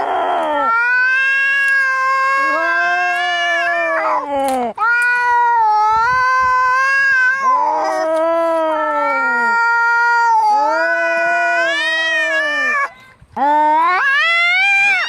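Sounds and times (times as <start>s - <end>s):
cats yowling: 0.0s - 12.9s, 13.8s - 15.0s.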